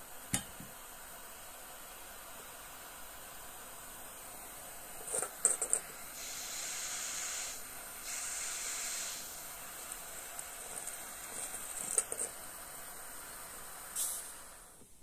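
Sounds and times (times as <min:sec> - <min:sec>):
gas torch hissing: 0:00.0 - 0:15.0.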